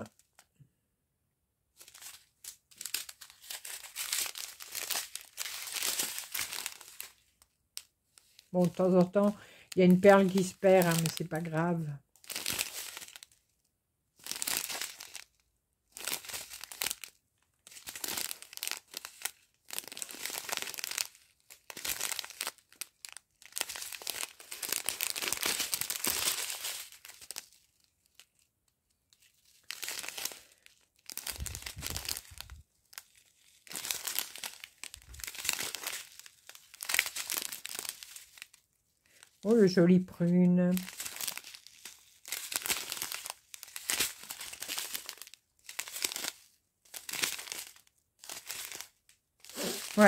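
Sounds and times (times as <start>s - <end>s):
plastic sachets crinkling: 0.0s - 0.4s, 1.8s - 13.5s, 14.2s - 28.5s, 29.1s - 50.0s.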